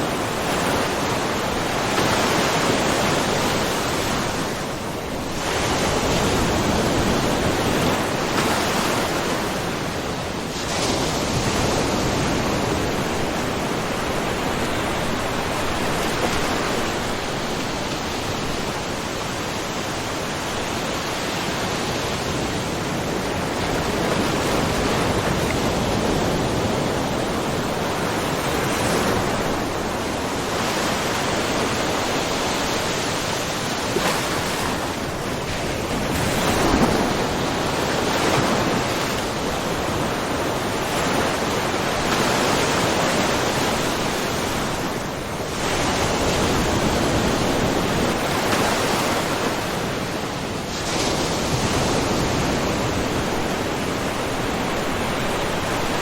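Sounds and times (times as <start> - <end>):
ocean waves splashing on rocks: 0.0 - 56.0.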